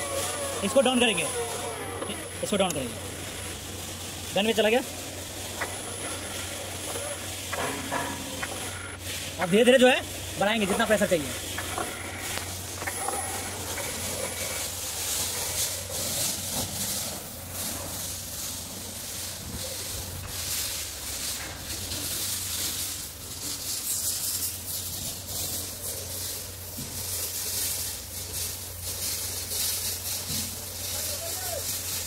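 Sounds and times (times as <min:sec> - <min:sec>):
paint sprayer hissing: 0:00.0 - 0:32.0
pump motor hum: 0:00.0 - 0:32.0.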